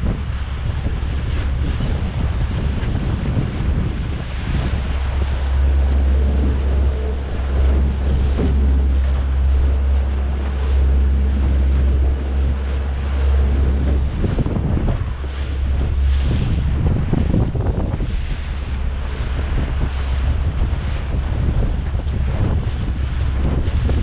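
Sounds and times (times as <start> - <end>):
steady low hum: 0.0 - 24.0
waves splashing around boat: 0.0 - 24.0
wind buffeting microphone: 0.0 - 24.0.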